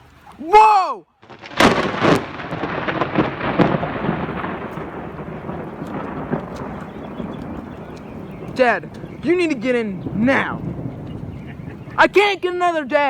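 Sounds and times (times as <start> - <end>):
rain falling: 0.0 - 13.0
thunder crackling and rumbling: 1.2 - 13.0.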